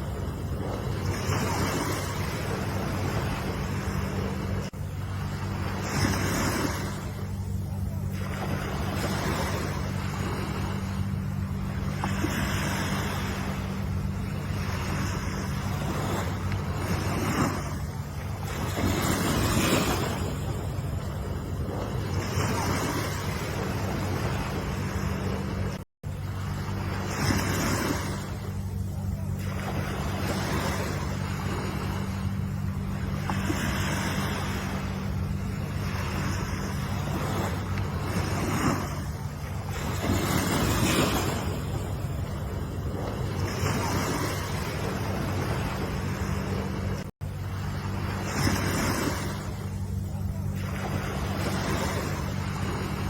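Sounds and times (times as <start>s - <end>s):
low rumble: 0.0s - 53.0s
ocean surf washing in: 0.0s - 53.0s.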